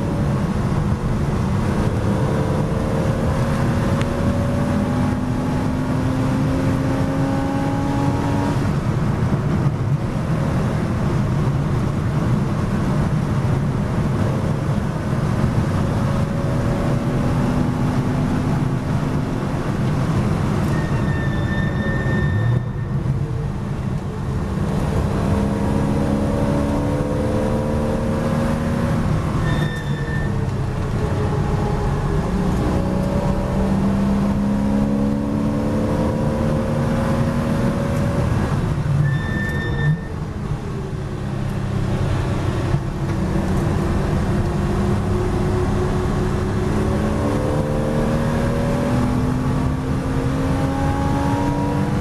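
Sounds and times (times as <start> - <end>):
race car engine from cabin: 0.0 - 52.0.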